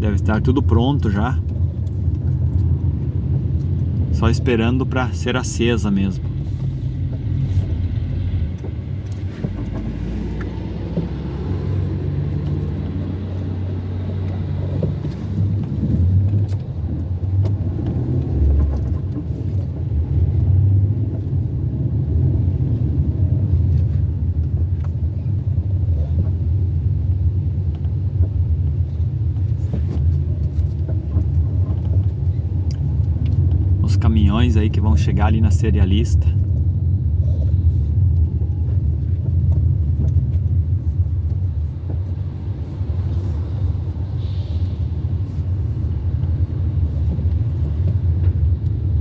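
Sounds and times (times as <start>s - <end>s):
car engine: 0.0s - 49.0s
road noise: 0.0s - 49.0s.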